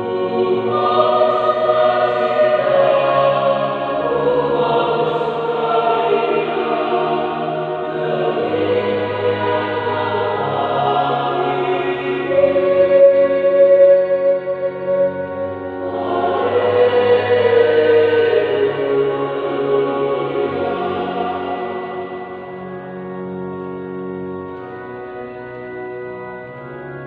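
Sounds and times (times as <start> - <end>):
choir singing a hymn: 0.0 - 23.5.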